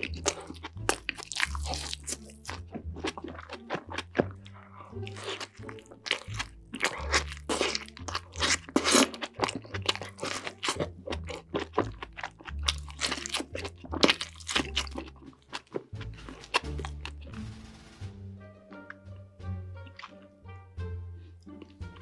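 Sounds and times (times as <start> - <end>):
biting and chewing with wet crunches: 0.0 - 17.2, 19.8 - 20.3.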